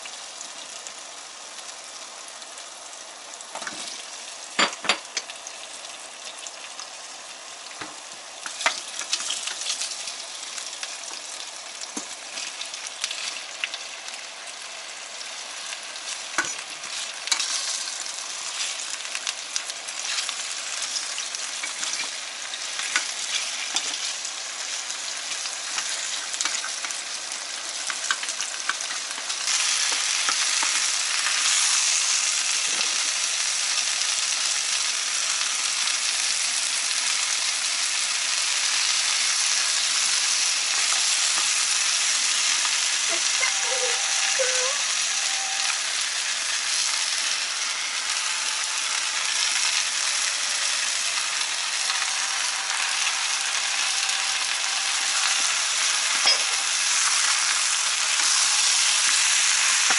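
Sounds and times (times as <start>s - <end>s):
vegetables sizzling in a pot: 0.0s - 59.9s.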